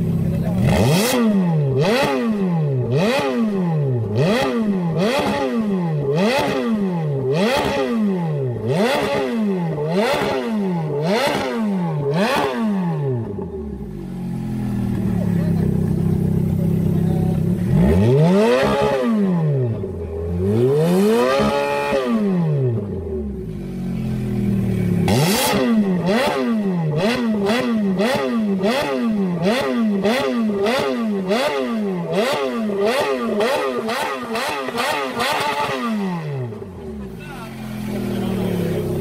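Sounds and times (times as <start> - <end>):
car engine revving: 0.0 - 39.0
engine throttle blips: 0.0 - 39.0.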